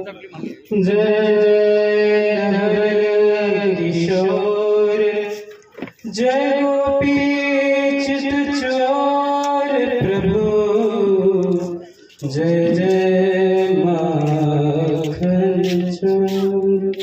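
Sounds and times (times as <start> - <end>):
man chanting a hymn: 0.0 - 17.0.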